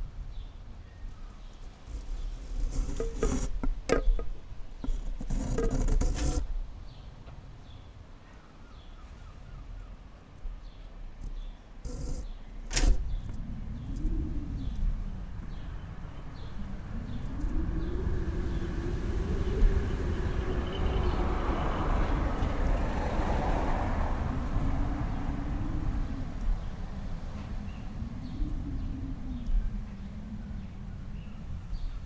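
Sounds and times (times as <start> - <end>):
wind gusting and howling: 0.0 - 32.0.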